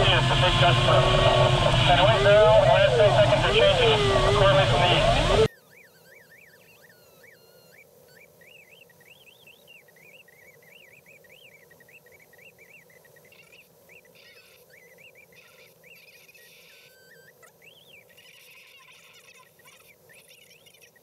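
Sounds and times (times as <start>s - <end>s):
electronic variometer tone: 0.0s - 19.6s.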